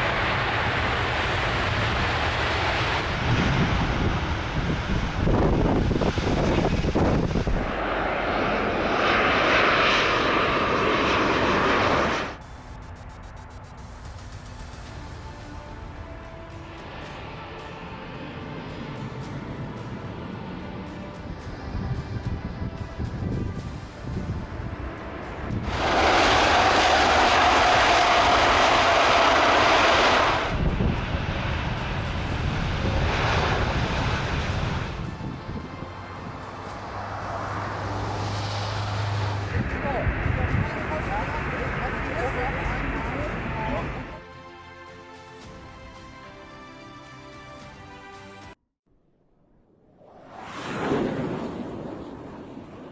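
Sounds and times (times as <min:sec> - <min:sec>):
jet engines roaring: 0:00.0 - 0:44.2, 0:49.9 - 0:52.9.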